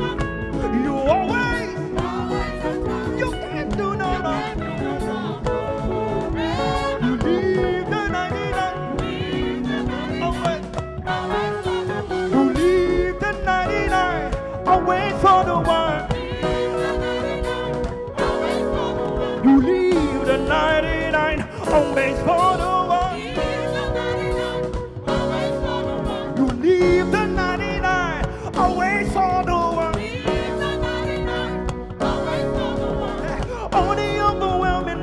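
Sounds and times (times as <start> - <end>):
bass: 0.0 - 35.0
congregation singing: 0.0 - 35.0
drums: 0.0 - 35.0
keyboard: 0.0 - 35.0
worship leader singing: 0.0 - 35.0.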